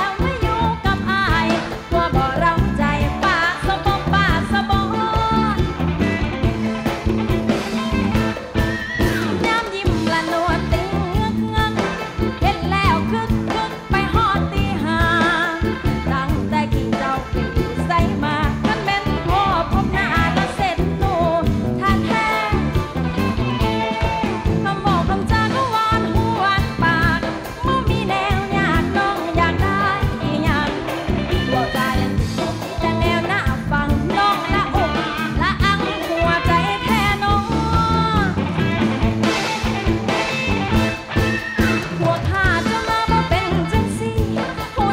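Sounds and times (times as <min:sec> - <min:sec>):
woman singing: 0:00.0 - 0:06.6, 0:09.0 - 0:40.1, 0:41.6 - 0:44.9
live band playing: 0:00.0 - 0:44.9.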